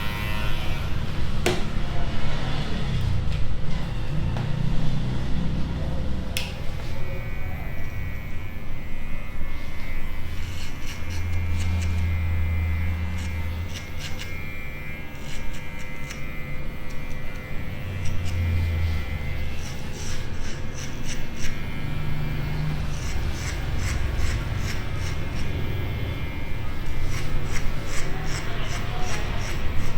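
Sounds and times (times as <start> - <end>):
electric hair clippers buzzing: 0.0 - 2.0, 4.1 - 29.9.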